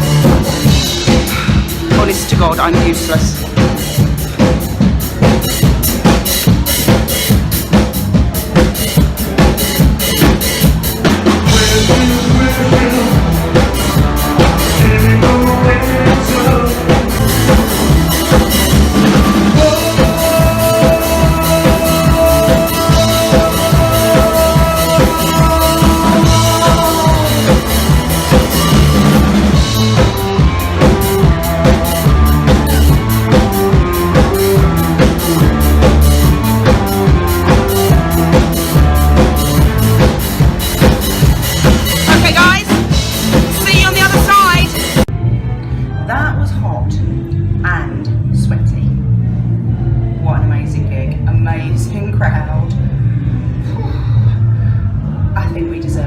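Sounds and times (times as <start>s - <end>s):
drum kit beat: 0.0s - 45.1s
live rock band playing: 0.0s - 45.1s.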